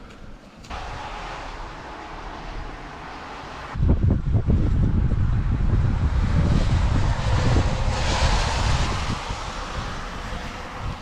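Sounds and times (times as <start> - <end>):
rushing wind gust: 0.7 - 11.0
storm wind buffeting microphone: 0.7 - 11.0.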